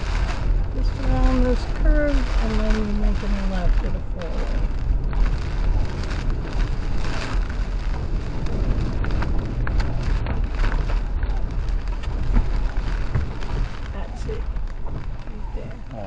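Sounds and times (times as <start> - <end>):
heavy rain hissing: 0.0 - 16.0
truck engine and road rumble: 0.0 - 16.0.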